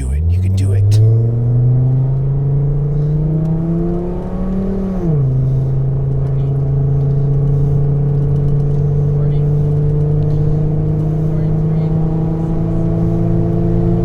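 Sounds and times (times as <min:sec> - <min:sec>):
pickup engine accelerating hard: 0:00.8 - 0:14.0.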